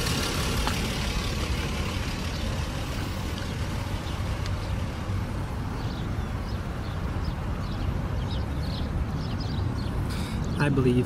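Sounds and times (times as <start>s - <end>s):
small birds chirping: 0.6s - 11.0s.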